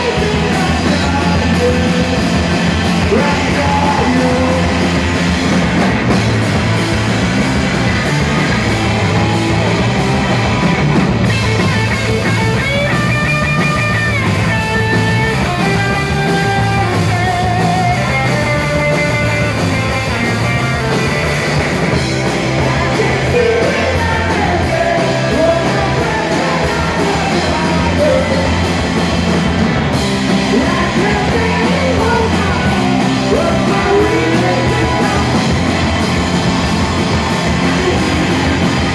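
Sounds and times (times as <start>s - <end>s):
punk rock band playing: 0.0s - 38.9s.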